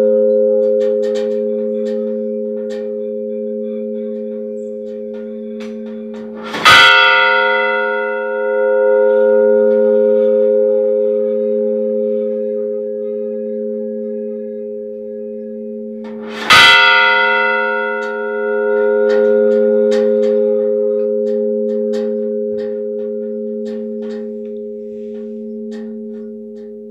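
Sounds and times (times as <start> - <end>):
large church bell ringing: 0.0 - 26.9.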